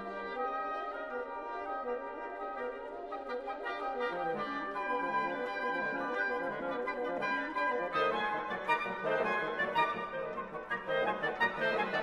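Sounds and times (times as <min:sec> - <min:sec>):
wind quintet chamber music: 0:00.0 - 0:12.0.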